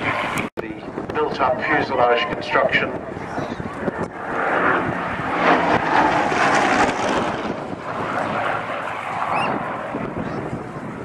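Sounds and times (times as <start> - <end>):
propeller plane flying past: 0.0 - 11.0
wind buffeting microphone: 0.0 - 11.0.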